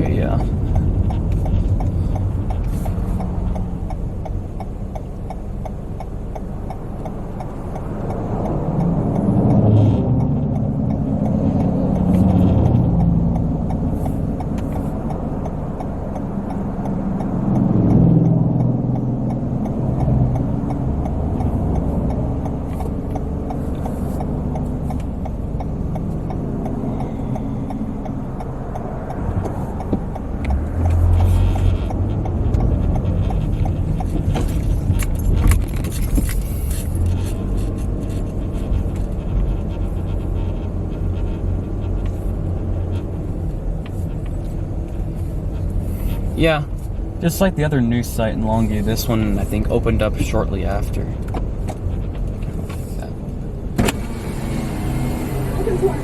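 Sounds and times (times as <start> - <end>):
car engine: 0.0 - 56.0
road noise: 0.0 - 56.0.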